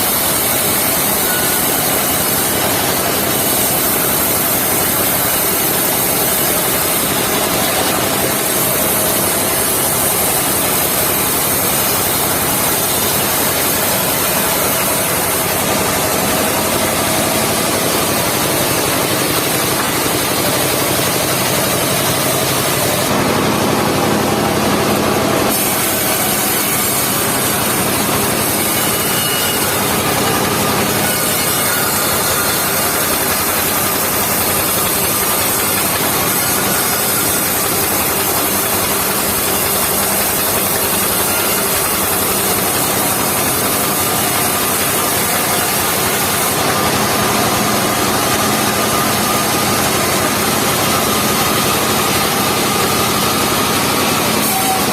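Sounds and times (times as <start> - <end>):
sawmill blade cutting log: 0.0 - 54.9.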